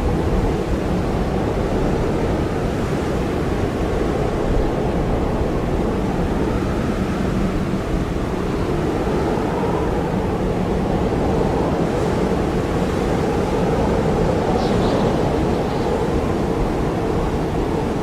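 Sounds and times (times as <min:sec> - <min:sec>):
blizzard wind blowing hard: 0:00.0 - 0:18.0.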